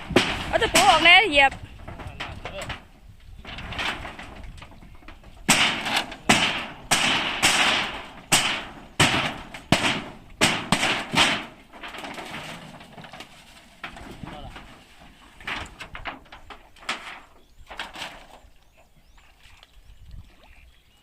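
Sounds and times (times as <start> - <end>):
hammer striking metal roofing: 0.0 - 2.9, 3.5 - 18.1.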